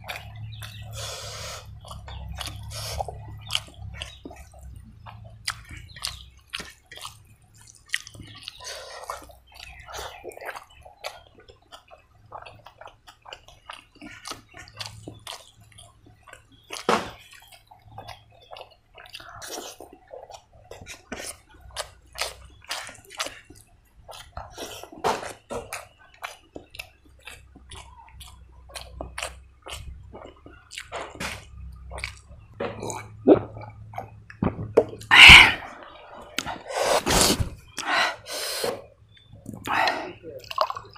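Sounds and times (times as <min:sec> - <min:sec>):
wet chewing and lip smacking: 0:00.0 - 0:40.9.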